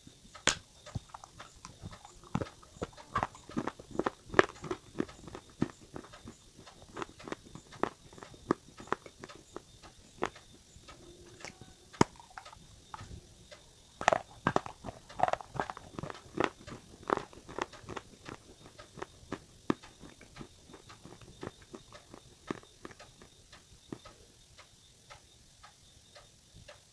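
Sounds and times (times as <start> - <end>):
dry clay crunching being chewed: 0.3 - 24.3.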